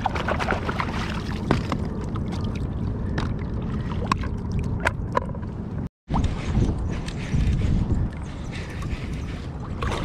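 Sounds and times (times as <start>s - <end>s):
water rumbling around kayak: 0.0s - 10.0s
wind: 0.0s - 10.0s.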